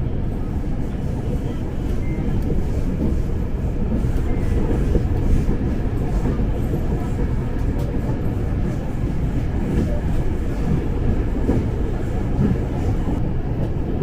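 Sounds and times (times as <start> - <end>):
train wheels and motors rumbling: 0.0 - 14.0.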